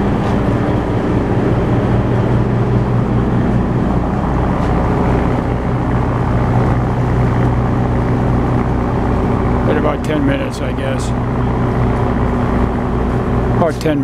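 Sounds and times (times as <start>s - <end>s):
ferry engines droning: 0.0s - 14.0s.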